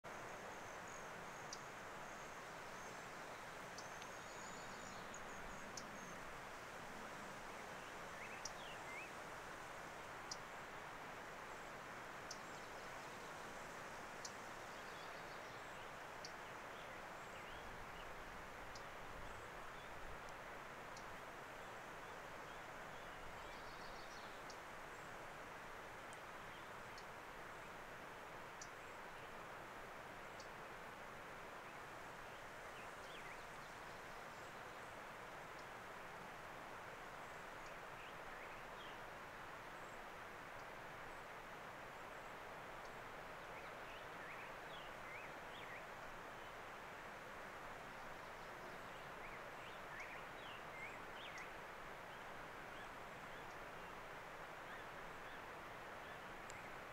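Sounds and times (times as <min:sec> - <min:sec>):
steady hiss: 0:00.1 - 0:56.9.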